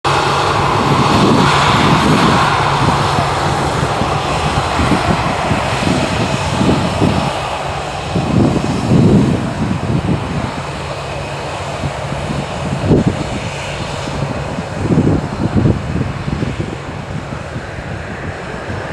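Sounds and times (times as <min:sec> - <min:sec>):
jet engines landing: 0:00.0 - 0:18.9
wind buffeting microphone: 0:00.1 - 0:18.9.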